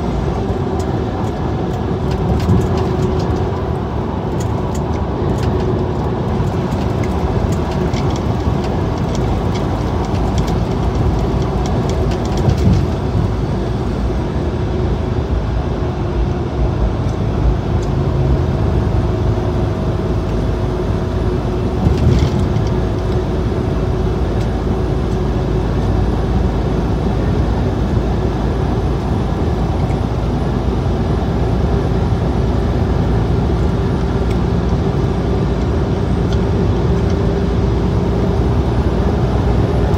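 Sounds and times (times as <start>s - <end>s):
truck engine hum: 0.0s - 39.9s
tyre road noise: 0.0s - 39.9s.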